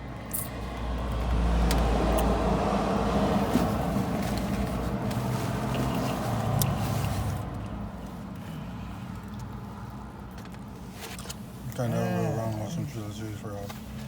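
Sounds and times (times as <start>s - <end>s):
car rumble from inside: 0.2s - 14.0s.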